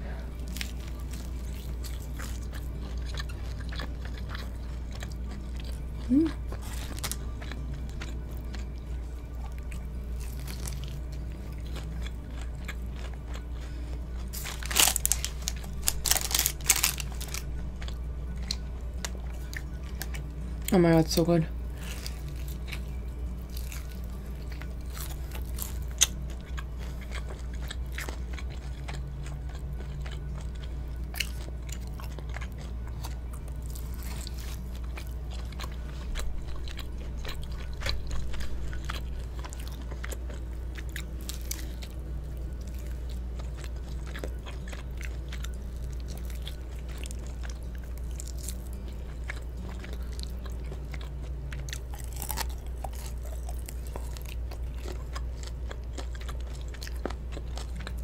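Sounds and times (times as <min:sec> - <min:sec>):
crisp breading crunching: 0:00.4 - 0:08.8, 0:09.5 - 0:58.0
wet chewing: 0:00.4 - 0:20.8, 0:21.7 - 0:58.0.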